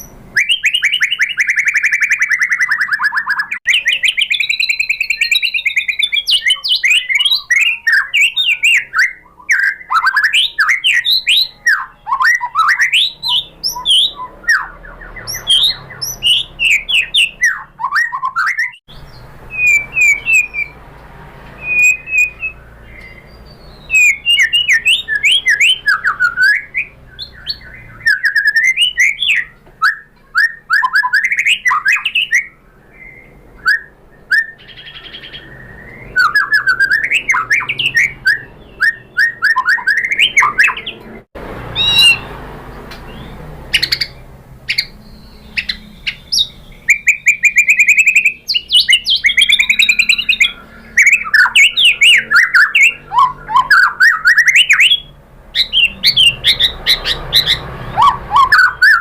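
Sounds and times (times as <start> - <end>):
bird singing whistled phrases: 0.0 - 20.8, 21.6 - 41.1, 41.7 - 42.3, 43.1 - 59.0.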